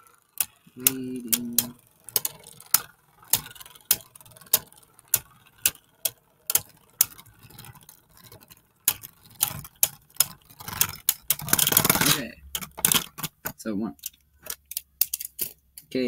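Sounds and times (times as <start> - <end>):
rattle of spinning tops: 0.0 - 15.6
spinning tops clacking: 0.0 - 16.0.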